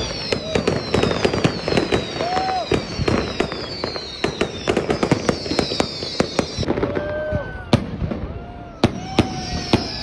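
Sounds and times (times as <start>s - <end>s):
fireworks banging and crackling: 0.0s - 10.0s.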